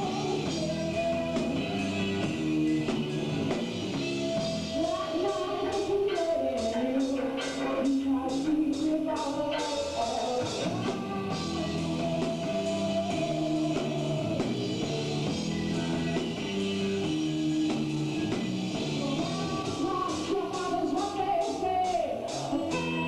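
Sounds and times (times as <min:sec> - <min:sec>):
drum kit: 0:00.0 - 0:23.0
electric guitar: 0:00.0 - 0:23.0.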